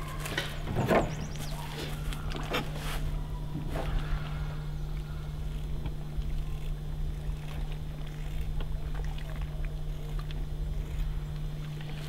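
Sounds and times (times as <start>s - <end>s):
low hum and rumble: 0.0s - 12.0s.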